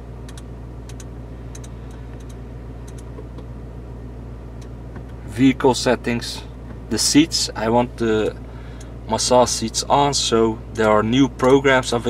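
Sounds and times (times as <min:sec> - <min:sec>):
car cabin low hum: 0:00.0 - 0:12.0.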